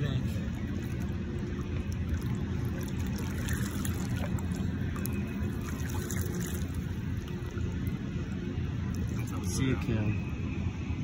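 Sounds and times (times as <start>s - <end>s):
river water sloshing: 0.0s - 9.8s
steady low rumble: 0.0s - 11.0s.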